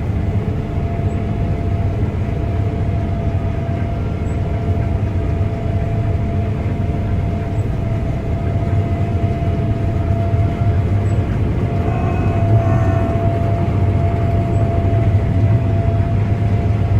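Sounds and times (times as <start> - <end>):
combine harvester drone: 0.0 - 16.9
steady machine whine: 0.0 - 16.9.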